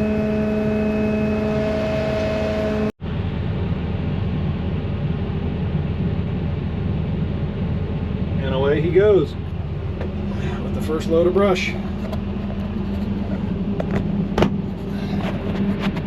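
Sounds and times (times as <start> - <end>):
engine whine: 0.0 - 16.0
heavy diesel engine rumble: 0.0 - 16.0.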